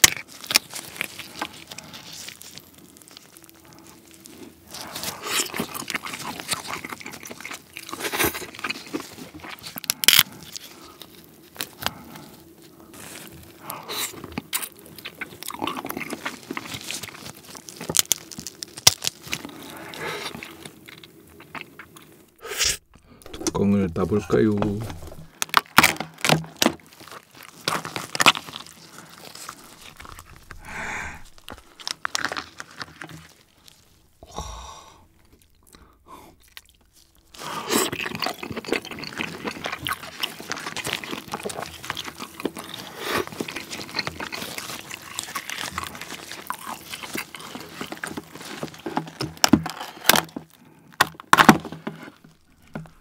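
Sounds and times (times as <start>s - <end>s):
crab shell cracking and crunching: 0.0s - 53.0s.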